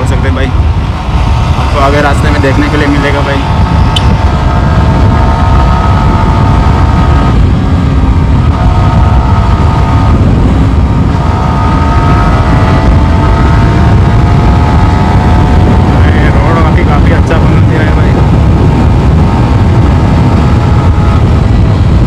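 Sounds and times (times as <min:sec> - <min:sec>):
motorcycle engine accelerating: 0:00.0 - 0:22.0
wind rumble on microphone: 0:00.0 - 0:22.0.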